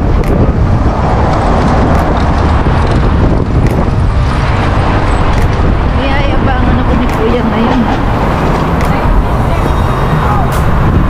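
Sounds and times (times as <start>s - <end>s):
traffic noise: 0.0s - 11.0s
wind buffeting microphone: 0.0s - 11.0s.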